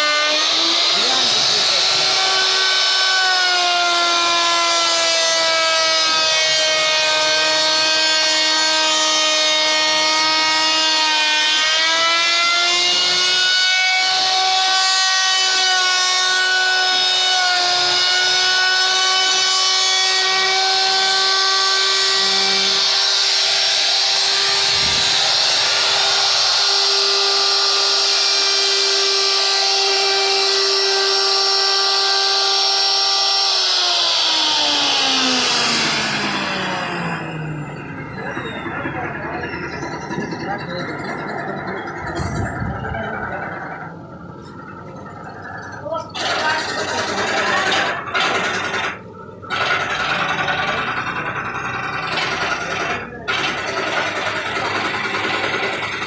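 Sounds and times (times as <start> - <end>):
electric router cutting wood: 0.0 - 56.0.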